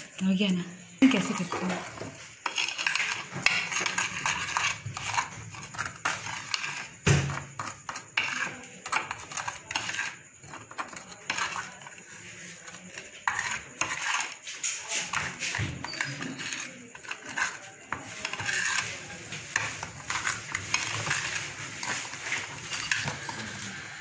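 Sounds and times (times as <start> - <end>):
metal spoon scraping ceramic plate: 1.0 - 24.0.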